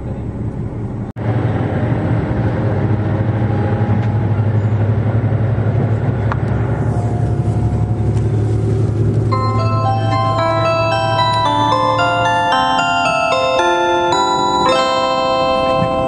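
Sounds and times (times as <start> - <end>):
train engine drone: 0.0 - 16.0.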